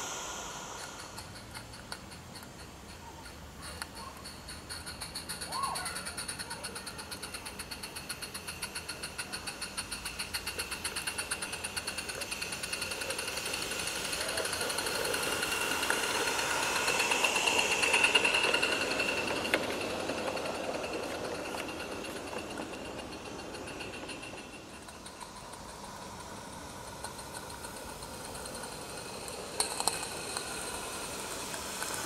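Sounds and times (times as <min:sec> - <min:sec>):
steam locomotive chuffing: 0:00.0 - 0:32.0.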